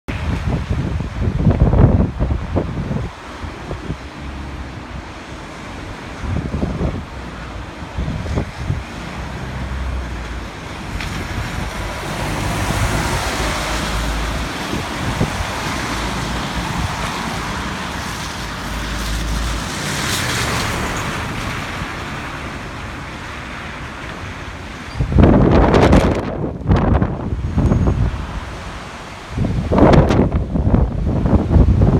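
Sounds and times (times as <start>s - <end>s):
wind buffeting microphone: 0.1s - 31.9s
wind rushing through tree: 0.1s - 31.9s.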